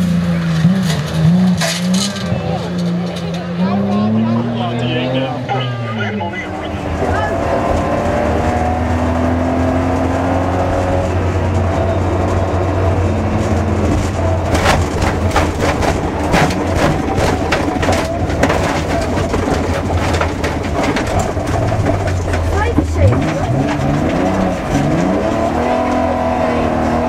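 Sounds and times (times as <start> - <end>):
car engine running under load: 0.0 - 27.0.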